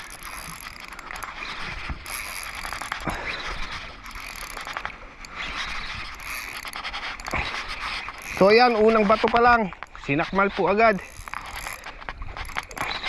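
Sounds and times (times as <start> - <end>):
fishing reel clicking and whirring: 0.0 - 13.0.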